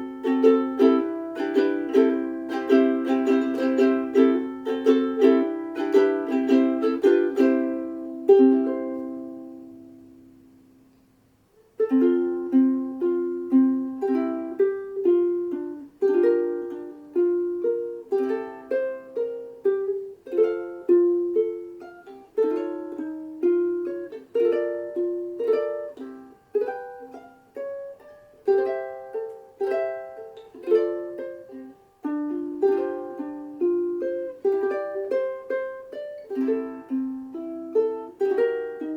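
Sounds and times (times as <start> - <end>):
ukulele chords strummed: 0.0 - 38.9.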